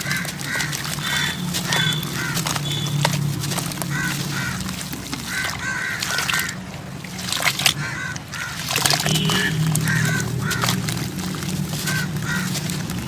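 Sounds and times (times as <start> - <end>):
bird calls: 0.0 - 13.0
dry clumps crumbling: 0.0 - 13.0.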